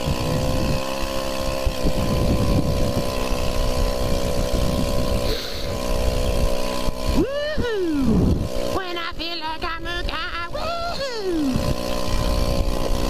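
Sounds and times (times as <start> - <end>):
small scooter engine running: 0.0 - 13.0.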